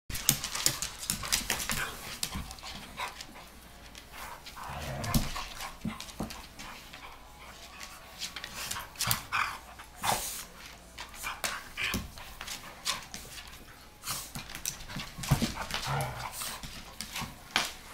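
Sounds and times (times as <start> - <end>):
dogs scuffling: 0.1 - 17.9.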